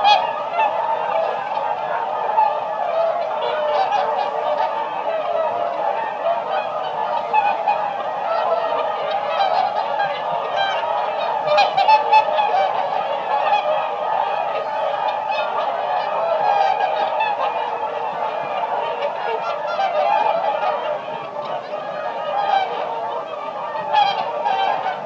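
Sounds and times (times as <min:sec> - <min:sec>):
swans honking: 0:00.0 - 0:25.0.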